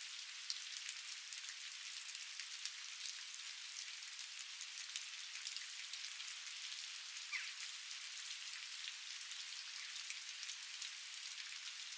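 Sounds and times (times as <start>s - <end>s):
steady rain: 0.0s - 11.9s.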